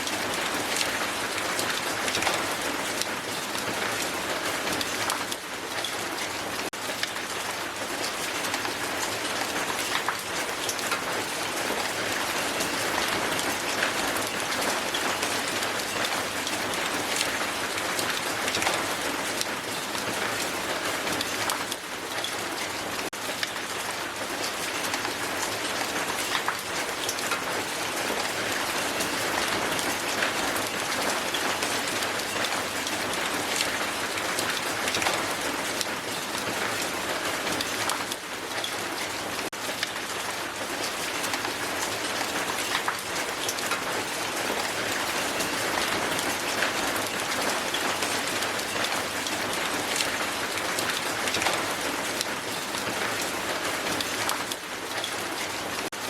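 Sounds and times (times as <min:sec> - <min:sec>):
hail pelting a hard surface: 0:00.0 - 0:56.0.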